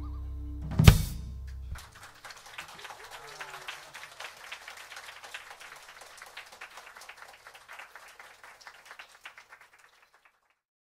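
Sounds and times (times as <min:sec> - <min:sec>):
audience applauding: 0:01.7 - 0:10.6.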